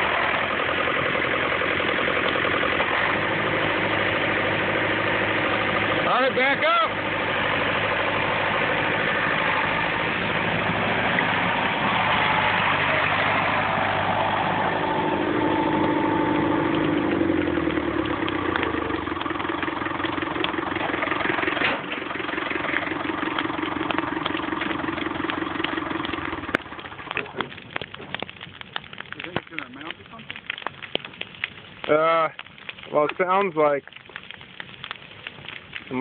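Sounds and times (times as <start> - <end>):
burning brush crackling: 0.0 - 36.0
tractor engine running: 0.0 - 36.0.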